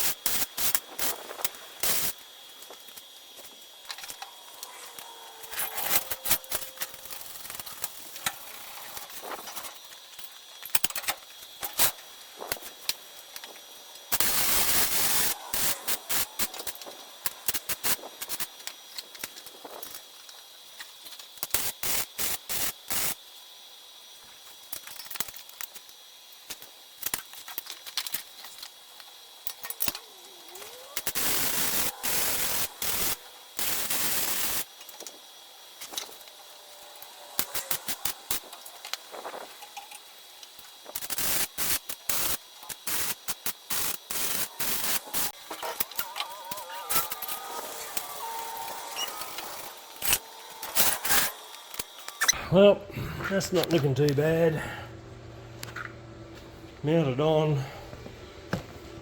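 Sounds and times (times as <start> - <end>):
welder crackling: 0.0 - 23.4, 24.3 - 52.4.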